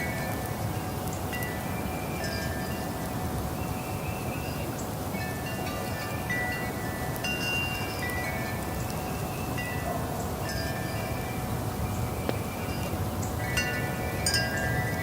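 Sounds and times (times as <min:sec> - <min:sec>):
breezy hiss of wind: 0:00.0 - 0:15.0
metal wind chimes ringing: 0:00.0 - 0:15.0.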